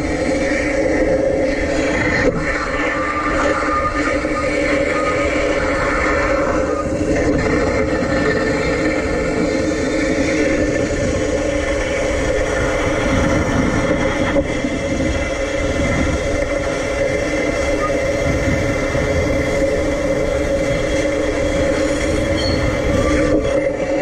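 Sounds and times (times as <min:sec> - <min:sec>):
electric tram running: 0:00.0 - 0:24.0
wind rumble on microphone: 0:00.0 - 0:24.0.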